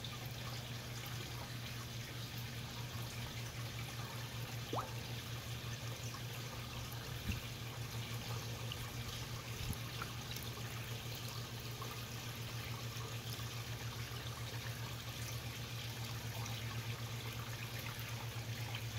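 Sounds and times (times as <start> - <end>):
steady low hum: 0.0 - 18.9
water trickling and lapping: 0.0 - 18.9.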